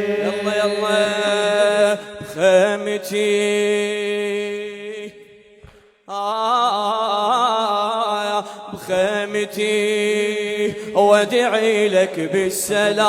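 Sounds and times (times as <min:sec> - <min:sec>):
man singing unaccompanied: 0:00.0 - 0:05.2, 0:06.1 - 0:13.0.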